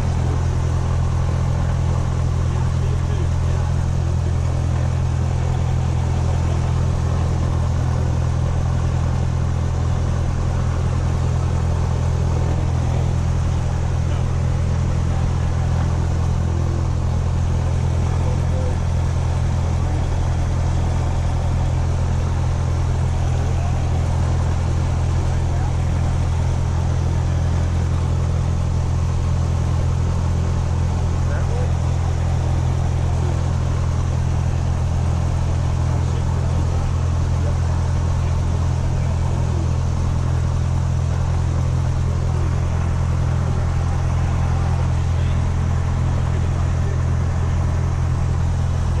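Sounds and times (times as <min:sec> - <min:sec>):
aircraft engine idling drone: 0:00.0 - 0:49.0.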